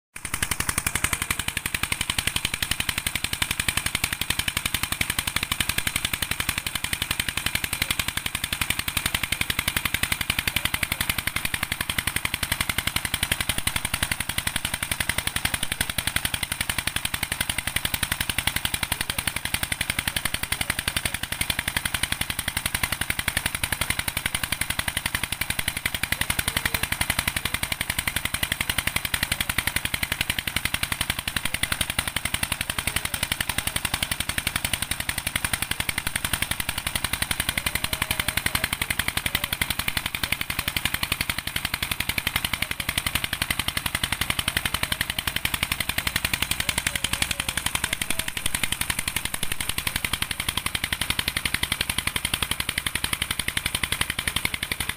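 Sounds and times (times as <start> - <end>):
diesel engine chugging: 0.2 - 54.9.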